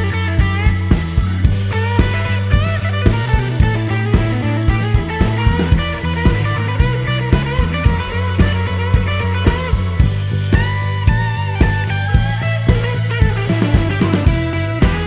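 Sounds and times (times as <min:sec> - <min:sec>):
guitar melody: 0:00.0 - 0:15.0
steady drum beat: 0:00.0 - 0:15.0.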